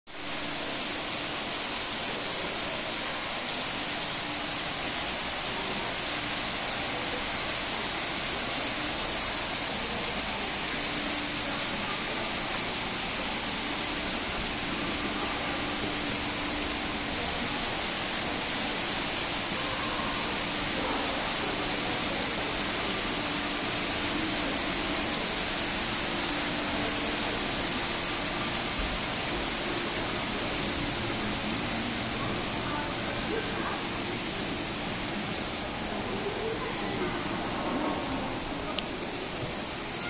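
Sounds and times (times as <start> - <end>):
water pouring down wall into pool: 0.1 - 40.0.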